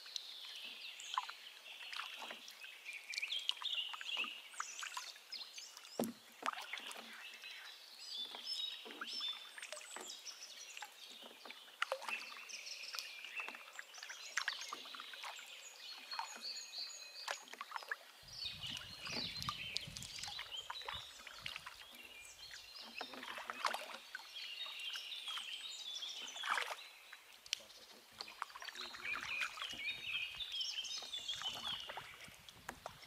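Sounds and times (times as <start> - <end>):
paddle strokes splashing: 0.1 - 16.6, 17.2 - 33.0
birds singing: 0.1 - 32.4.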